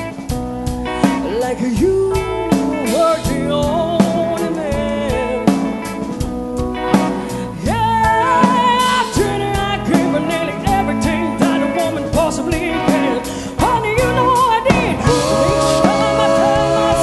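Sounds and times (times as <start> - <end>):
live rock band playing: 0.0 - 17.0
woman singing with vibrato: 1.3 - 5.8, 7.3 - 17.0.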